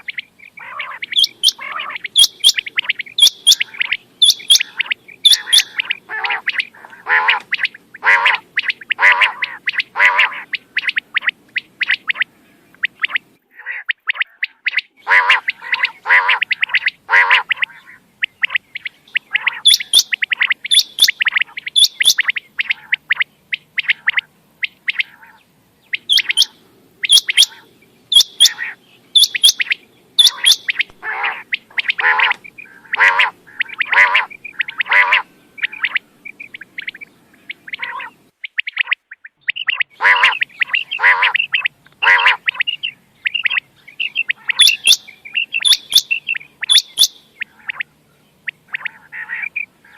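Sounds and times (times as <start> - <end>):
quail calling: 0.0 - 49.9.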